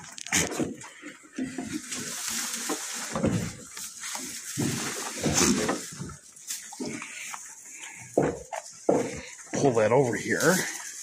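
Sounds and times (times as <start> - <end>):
dry hay rustling and crackling: 0.0 - 11.0.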